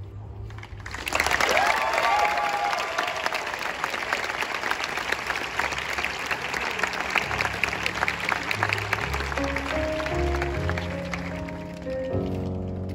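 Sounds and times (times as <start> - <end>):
audience applauding: 0.4 - 12.9.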